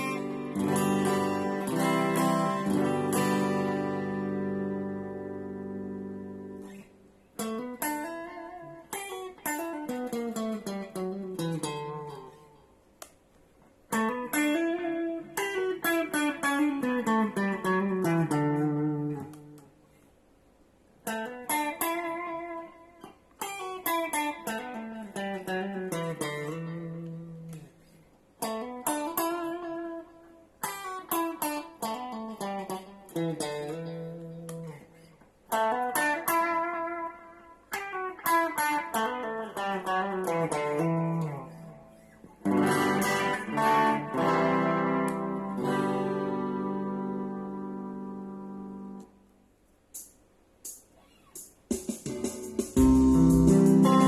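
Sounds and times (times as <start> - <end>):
electric guitar lead phrases: 0.0 - 12.6, 13.9 - 19.8, 21.0 - 49.2, 52.1 - 54.0.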